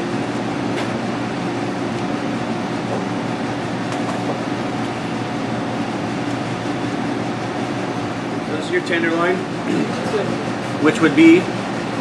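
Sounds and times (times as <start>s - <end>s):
air handling system hum: 0.0s - 12.0s.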